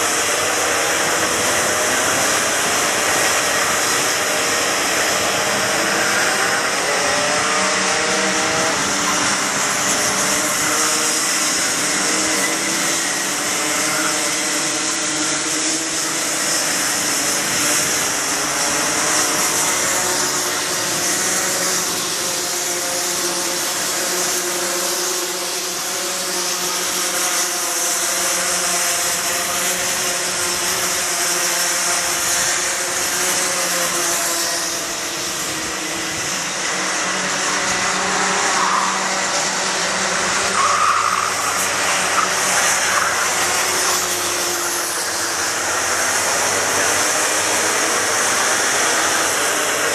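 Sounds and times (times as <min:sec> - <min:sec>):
kart engines buzzing at high revs: 0:00.0 - 0:49.9.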